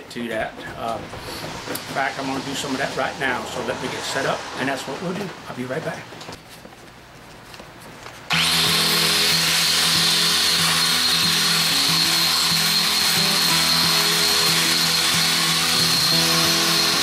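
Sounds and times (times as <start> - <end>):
angle grinder wire brushing metal: 0.6 - 5.9, 8.3 - 17.0.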